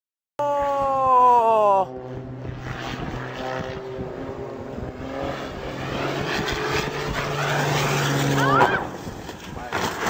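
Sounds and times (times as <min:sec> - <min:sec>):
propeller plane engine droning: 0:00.4 - 0:10.0.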